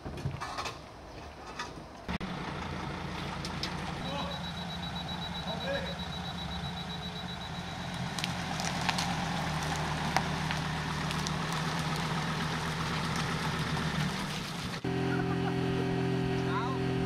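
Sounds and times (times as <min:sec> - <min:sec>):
engine idling: 0:02.2 - 0:17.0.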